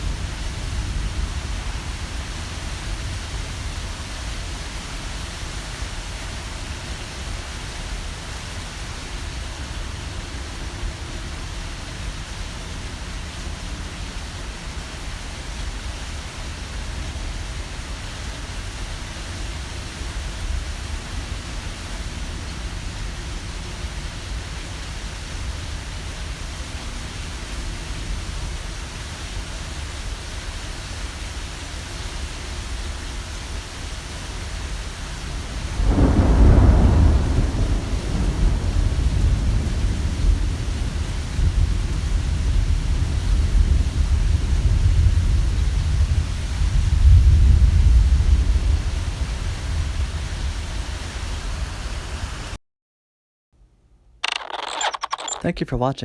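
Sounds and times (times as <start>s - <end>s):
rain falling: 0.0s - 52.6s.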